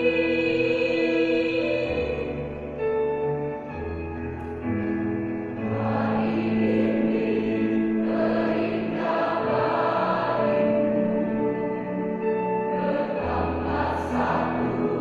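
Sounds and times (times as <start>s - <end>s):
choir singing in harmony: 0.0s - 3.2s, 5.6s - 15.0s.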